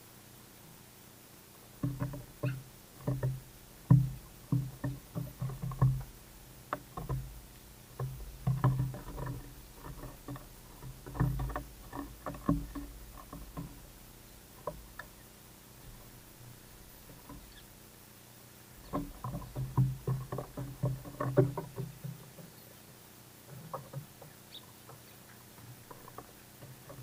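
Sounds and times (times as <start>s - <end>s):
pigeon pecking on wooden board: 1.8s - 17.8s, 18.6s - 22.6s, 23.4s - 27.0s.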